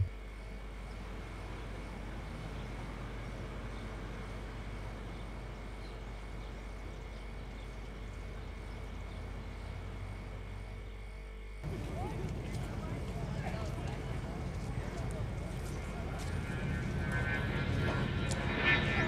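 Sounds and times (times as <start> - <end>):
distant city traffic rumble: 0.0 - 10.9, 11.6 - 19.0.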